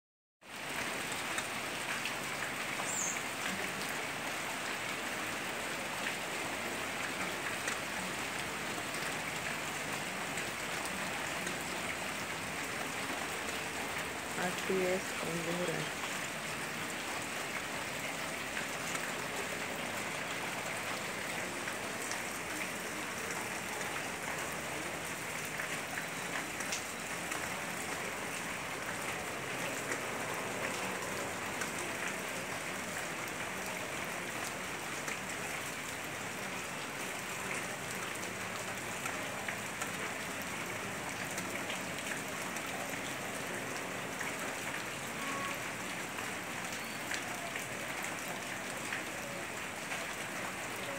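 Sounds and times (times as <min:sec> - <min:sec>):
heavy rain on corrugated roofs: 0:00.4 - 0:50.9.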